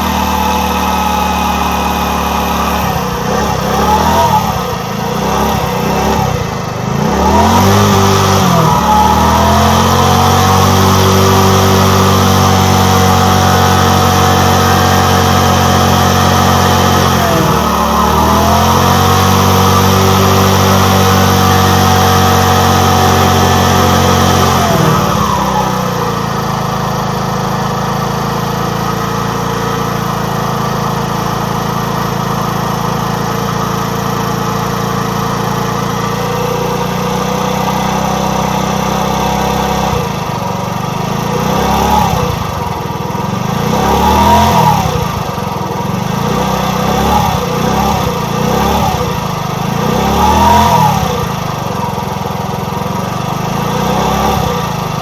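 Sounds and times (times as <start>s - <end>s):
engine throttle blips: 0.0s - 55.0s
motor scooter engine: 0.0s - 55.0s.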